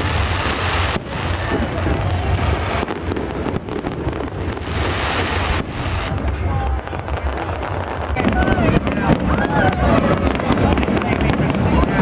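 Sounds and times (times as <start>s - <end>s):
fireworks bangs and crackling: 0.0s - 12.0s
low rumble: 0.0s - 12.0s.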